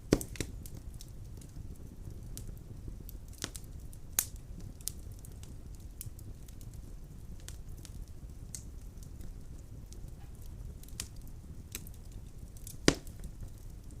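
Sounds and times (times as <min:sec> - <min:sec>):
burning logs crackling: 0:00.0 - 0:14.0
loud sharp snap of fire: 0:00.0 - 0:14.0
low rumble of flames: 0:00.0 - 0:14.0.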